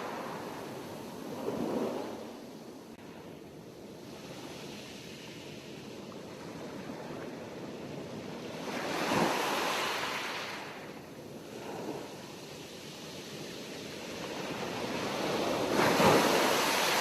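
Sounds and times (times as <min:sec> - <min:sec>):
sea waves washing ashore: 0:00.0 - 0:03.0, 0:03.8 - 0:17.0.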